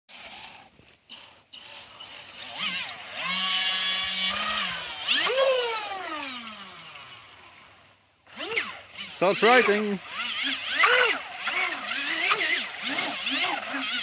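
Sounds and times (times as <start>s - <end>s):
electric motor whining: 0.1s - 14.0s.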